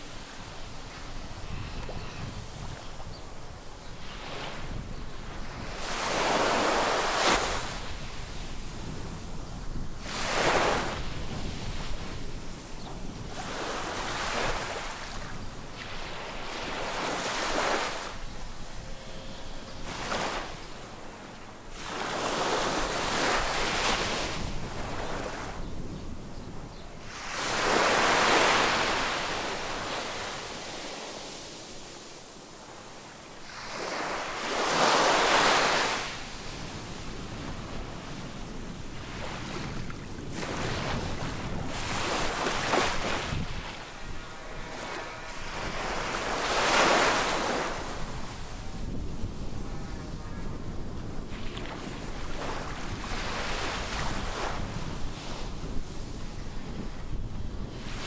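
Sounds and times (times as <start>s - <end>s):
small waves breaking on sand: 0.0s - 18.4s, 19.8s - 25.6s, 27.0s - 58.0s.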